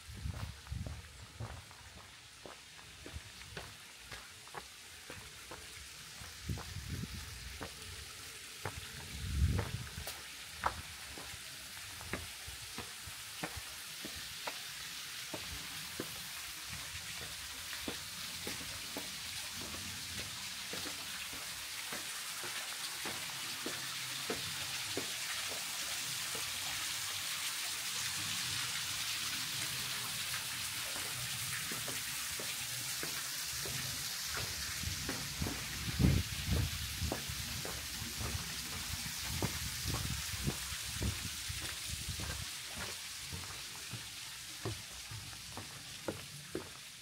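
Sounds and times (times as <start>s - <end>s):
steady rushing hiss: 0.0s - 47.0s
footsteps on a trail: 0.1s - 14.7s, 15.3s - 25.7s, 30.8s - 46.9s.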